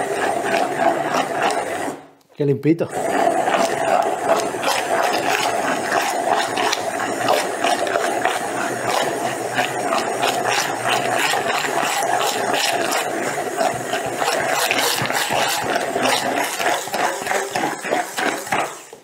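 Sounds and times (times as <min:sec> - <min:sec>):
blender blade clattering: 0:00.0 - 0:02.0, 0:02.9 - 0:19.0
immersion blender motor whine: 0:00.0 - 0:02.1, 0:02.9 - 0:19.0.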